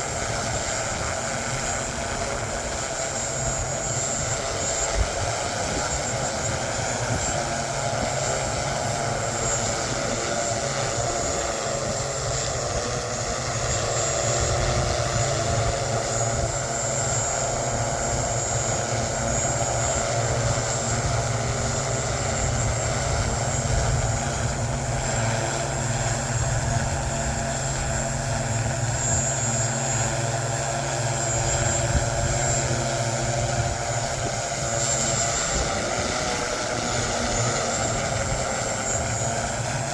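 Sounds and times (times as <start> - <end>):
drone propellers whirring: 0.0 - 39.9
wind buffeting microphone: 0.0 - 39.9.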